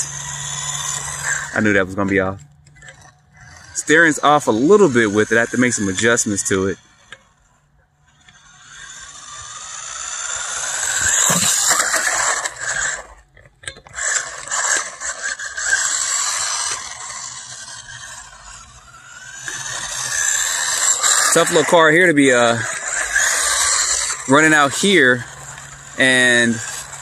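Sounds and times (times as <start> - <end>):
rc truck motor whine: 0.0 - 27.0.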